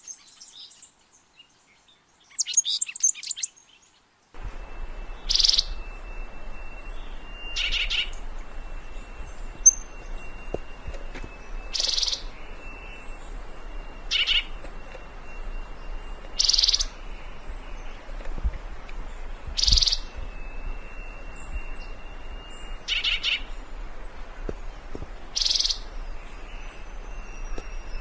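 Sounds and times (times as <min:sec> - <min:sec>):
faint steady high tone: 0:04.4 - 0:28.0.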